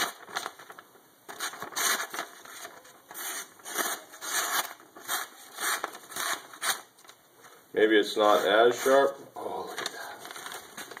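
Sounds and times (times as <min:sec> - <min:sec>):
paper rustling: 0:00.0 - 0:07.6, 0:08.2 - 0:11.0.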